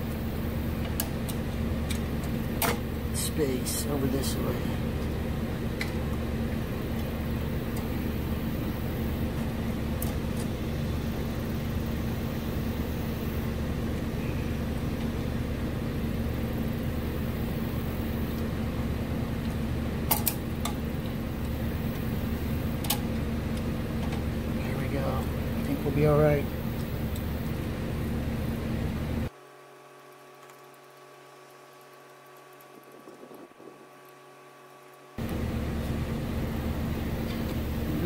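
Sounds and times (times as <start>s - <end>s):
low machine hum: 0.0s - 38.0s.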